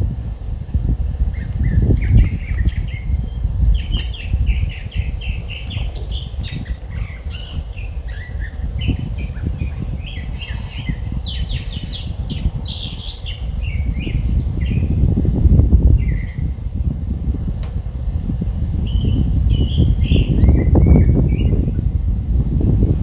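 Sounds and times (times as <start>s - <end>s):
wind on microphone: 0.0s - 23.0s
birds chirping: 1.1s - 16.9s, 17.8s - 22.0s.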